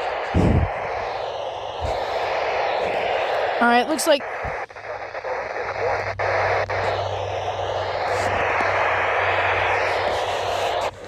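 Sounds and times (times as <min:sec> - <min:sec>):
low hum: 0:00.0 - 0:11.0
radio static hiss: 0:00.0 - 0:11.0.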